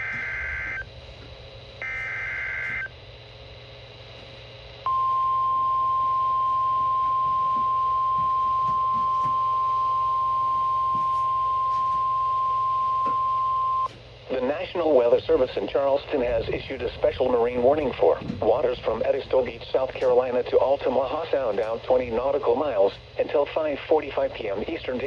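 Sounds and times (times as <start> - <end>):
steady warning alert tone: 0.0 - 0.9, 4.9 - 25.0.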